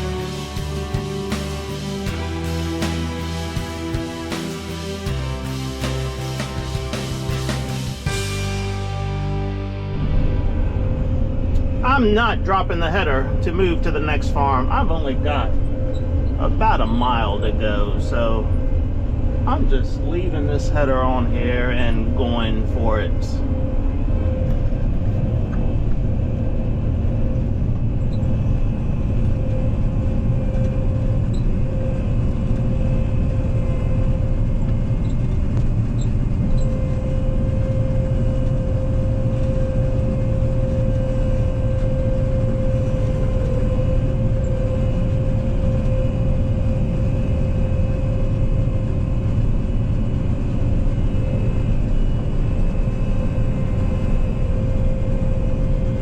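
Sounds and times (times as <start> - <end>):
combine harvester engine drone: 0.0 - 56.0
steady whine: 0.0 - 56.0.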